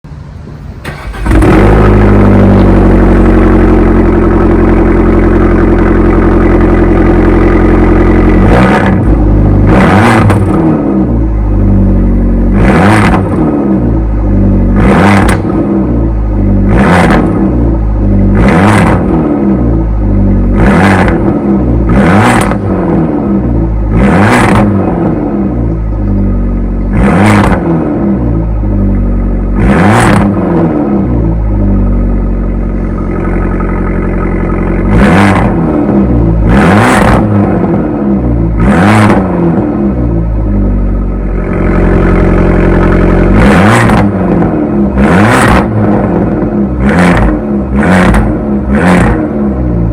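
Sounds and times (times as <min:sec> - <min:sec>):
car engine starting and idling: 0:00.0 - 0:49.9
car engine revving in blips: 0:00.8 - 0:49.9.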